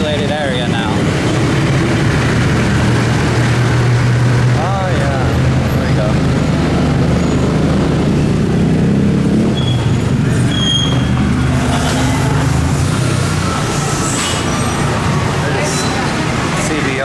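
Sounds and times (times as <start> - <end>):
street traffic: 0.0 - 17.0
vehicle engine running: 0.0 - 17.0.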